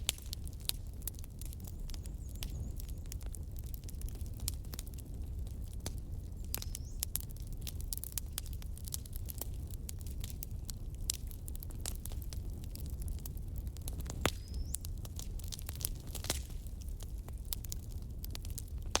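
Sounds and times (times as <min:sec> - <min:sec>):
logs crackling in fireplace: 0:00.0 - 0:19.0
low rumble of fire: 0:00.0 - 0:19.0
sharp pops from fire: 0:00.0 - 0:19.0.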